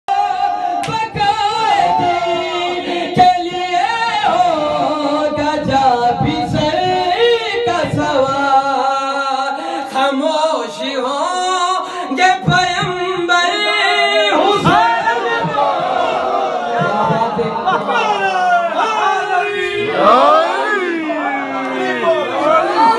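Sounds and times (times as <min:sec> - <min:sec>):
man chanting through loudspeaker: 0:00.1 - 0:15.5, 0:19.2 - 0:22.4.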